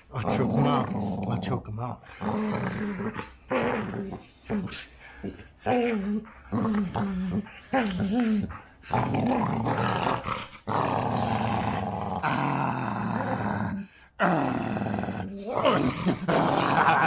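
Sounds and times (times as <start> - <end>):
dog growling: 0.0 - 17.0.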